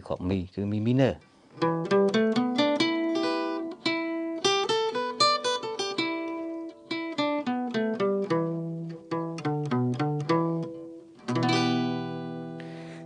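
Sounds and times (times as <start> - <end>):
acoustic guitar fingerpicking: 1.2 - 13.0.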